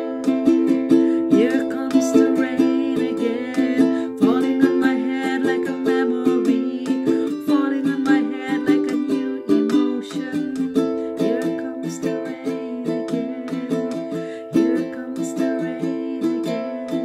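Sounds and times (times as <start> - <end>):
strummed ukulele: 0.0 - 17.0
woman singing: 0.0 - 17.0.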